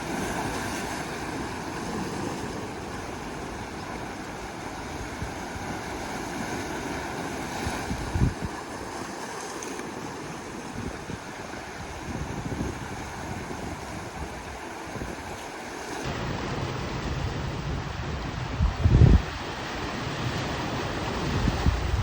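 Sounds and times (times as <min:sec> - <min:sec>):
sea waves on shore: 0:00.0 - 0:22.0
wind on microphone: 0:00.0 - 0:22.0.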